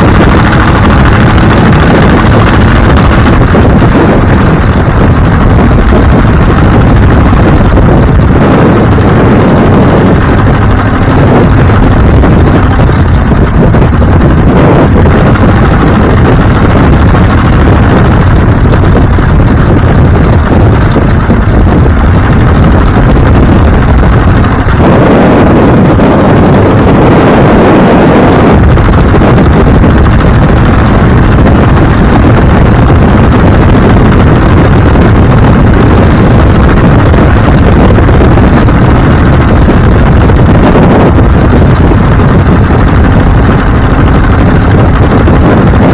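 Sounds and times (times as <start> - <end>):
vehicle engine and road noise: 0.0 - 45.9
wind buffeting microphone: 0.0 - 45.9.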